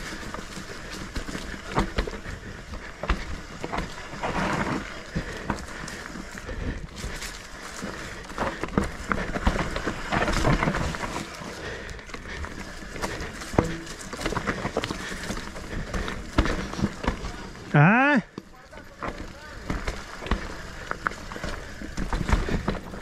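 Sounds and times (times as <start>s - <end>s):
bike rattling and knocking: 0.0s - 23.0s
bike tyres on stones and dirt: 0.0s - 23.0s.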